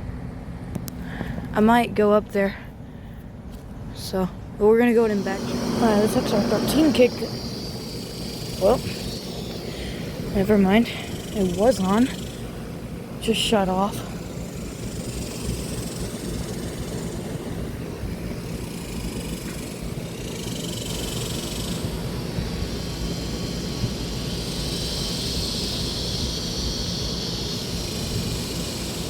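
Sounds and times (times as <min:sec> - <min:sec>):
condensing units humming: 0:00.0 - 0:29.0
condenser fans whooshing: 0:00.6 - 0:29.0
bright hiss: 0:05.0 - 0:29.0.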